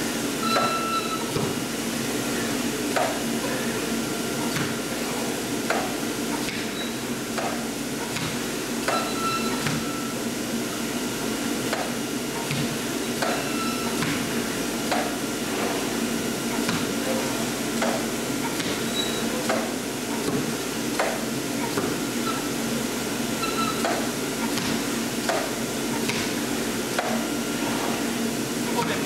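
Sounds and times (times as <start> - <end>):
blower hum: 0.0 - 29.0.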